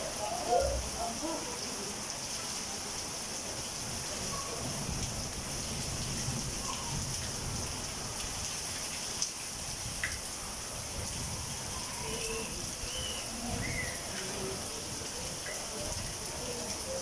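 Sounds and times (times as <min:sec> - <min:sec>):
heavy rain with hail: 0:00.0 - 0:17.0.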